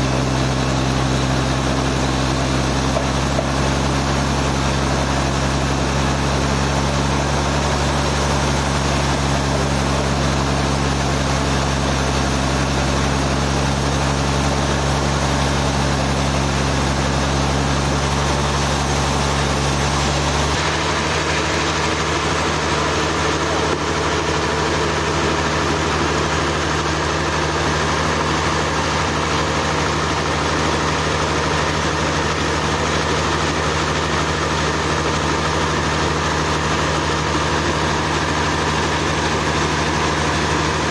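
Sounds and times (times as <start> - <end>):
sawmill machinery engine drone: 0.0 - 40.9.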